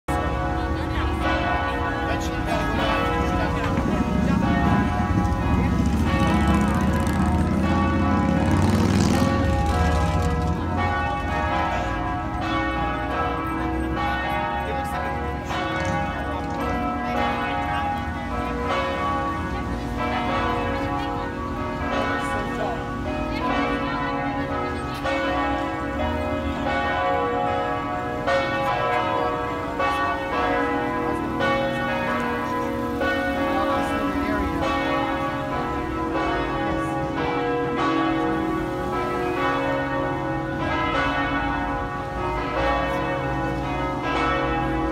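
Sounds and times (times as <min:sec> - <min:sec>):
church bells ringing: 0:00.1 - 0:44.9.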